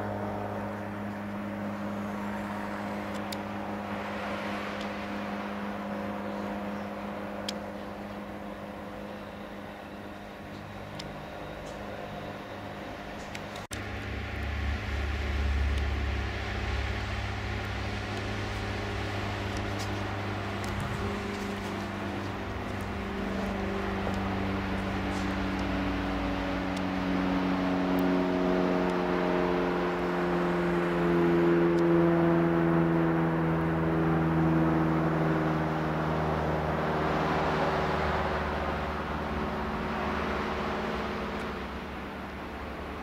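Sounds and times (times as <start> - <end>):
propeller aircraft drone: 0.0 - 43.0.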